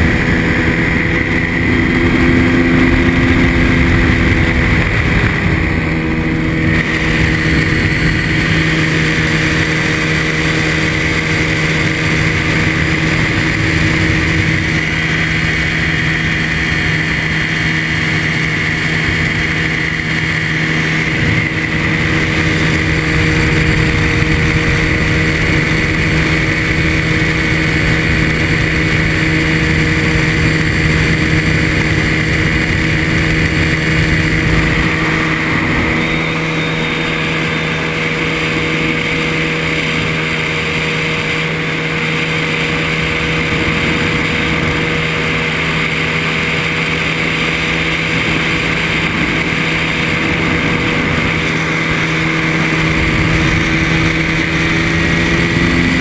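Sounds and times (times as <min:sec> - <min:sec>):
engine and propeller running: 0:00.0 - 0:56.0
wind rumbling on microphone: 0:00.0 - 0:56.0.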